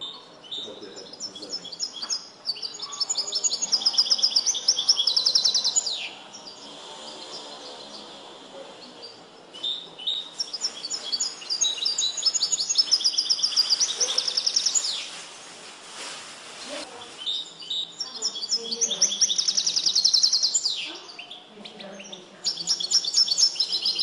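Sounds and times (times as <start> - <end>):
goldfinch singing: 0.0 - 8.2, 8.8 - 15.2, 17.0 - 24.0.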